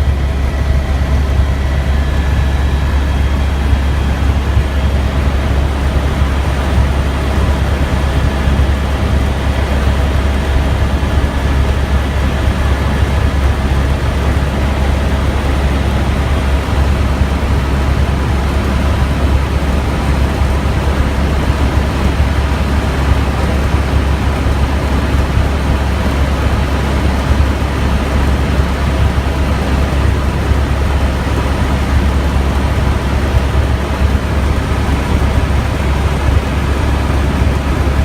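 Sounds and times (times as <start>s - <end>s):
helicopter cabin drone: 0.0s - 38.0s.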